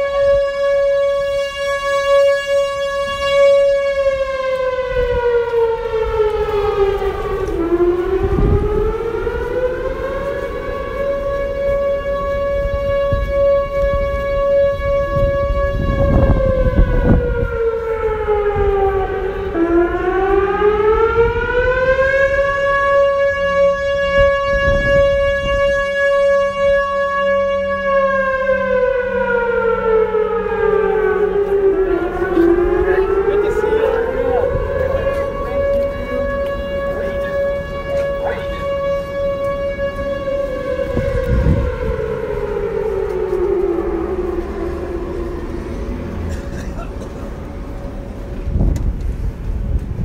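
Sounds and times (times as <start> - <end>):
outdoor warning siren: 0.0 - 50.0.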